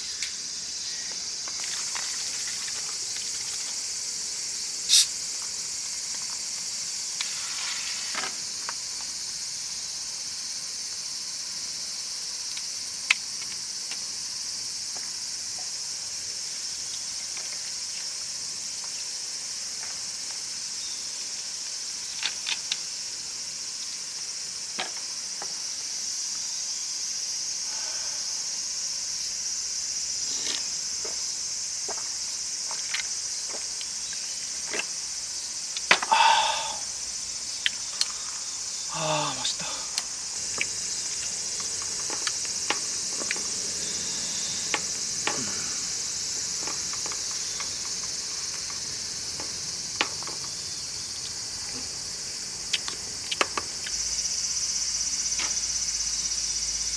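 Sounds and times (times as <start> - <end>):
chorus of night insects: 0.0 - 56.9.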